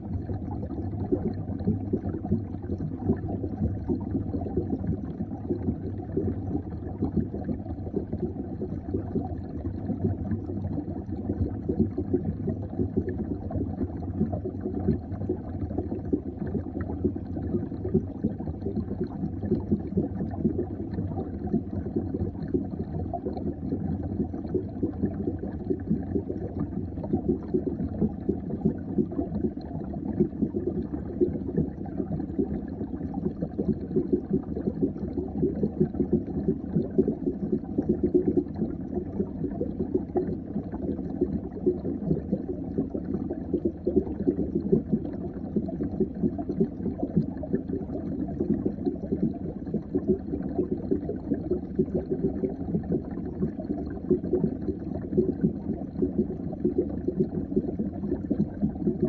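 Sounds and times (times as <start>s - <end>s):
bubbling crackle: 0.0s - 59.0s
muffled underwater rumble: 0.0s - 59.0s.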